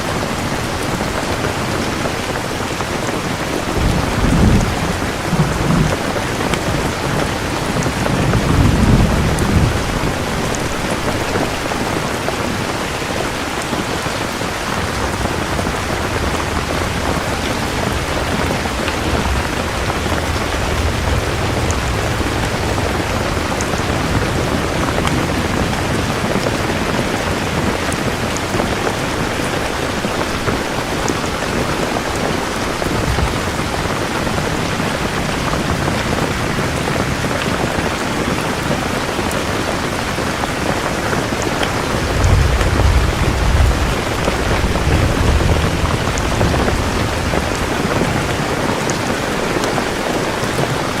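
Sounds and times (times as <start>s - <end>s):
steady rain: 0.0s - 51.0s
thunder rumbling: 0.0s - 51.0s.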